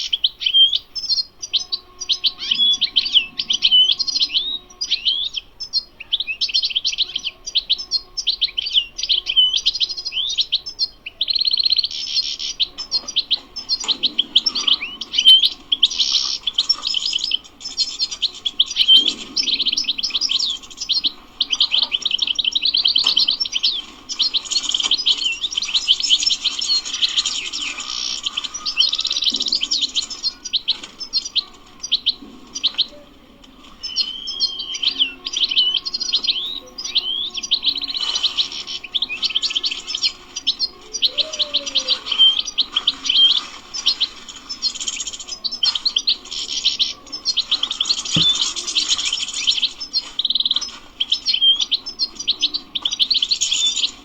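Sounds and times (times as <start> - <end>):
goldfinch singing: 0.0 - 54.0.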